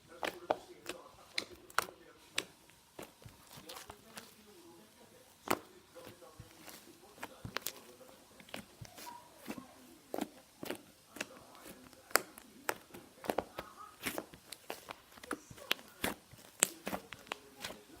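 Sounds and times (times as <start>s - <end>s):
slime squished by hand: 0.2s - 4.6s, 5.2s - 18.0s.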